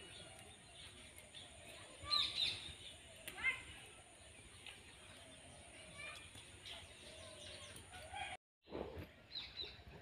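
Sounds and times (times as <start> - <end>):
small birds chirping: 0.0 - 8.4.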